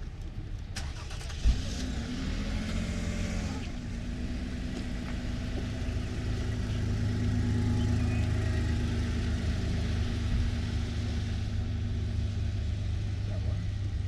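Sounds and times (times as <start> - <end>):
vehicle engine idling low: 0.0 - 14.0.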